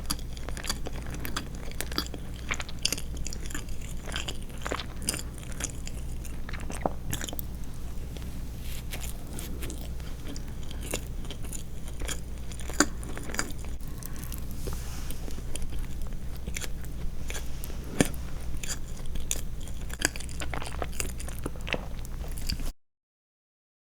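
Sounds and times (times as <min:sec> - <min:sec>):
mouth chewing sweets: 0:00.0 - 0:22.7
steady low hum: 0:00.0 - 0:22.7.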